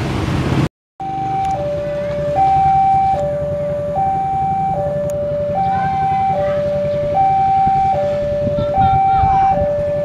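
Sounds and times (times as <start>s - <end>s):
road traffic rumble: 0.0s - 10.0s
two-tone crossing alarm: 1.0s - 10.0s.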